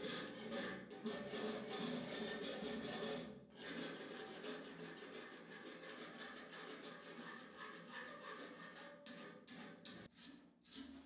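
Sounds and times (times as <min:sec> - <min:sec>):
hand file rasping on metal: 0:00.0 - 0:11.0.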